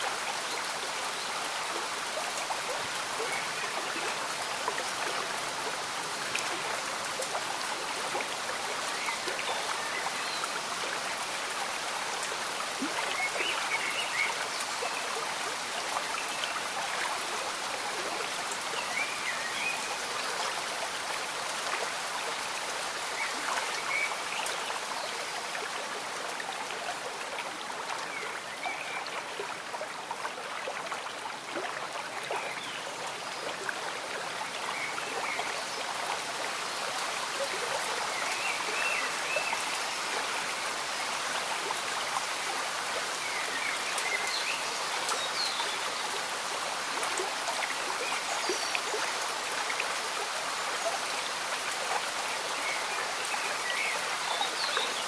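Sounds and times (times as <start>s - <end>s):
gentle rain falling: 0.0s - 55.0s
stream bubbling: 0.0s - 55.0s.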